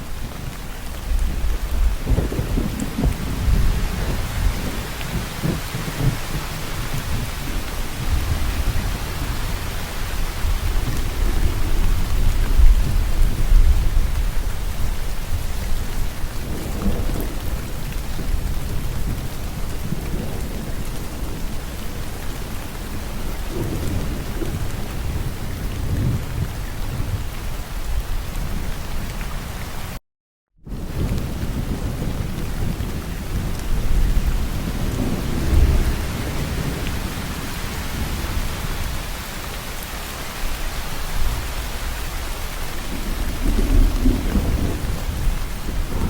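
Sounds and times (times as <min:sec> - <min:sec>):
low rolling thunder: 0:00.0 - 0:29.2, 0:30.7 - 0:39.6, 0:40.4 - 0:46.0
heavy rain: 0:00.0 - 0:30.0, 0:30.7 - 0:46.0.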